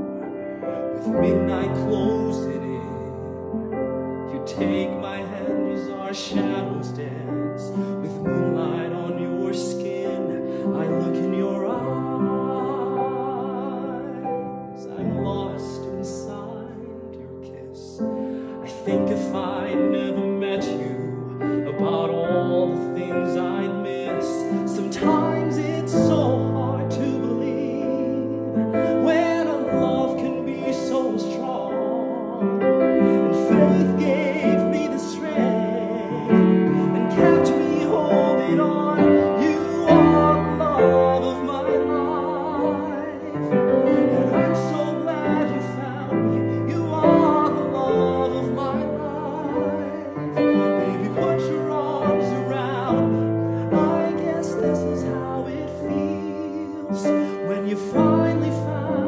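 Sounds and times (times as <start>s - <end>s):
man singing a slow ballad: 0.0s - 59.0s
piano accompaniment: 0.0s - 59.0s.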